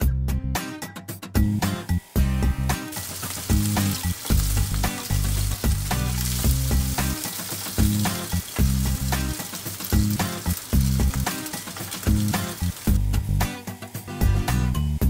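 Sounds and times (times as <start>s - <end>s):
fish sizzling in hot oil: 1.4s - 15.0s.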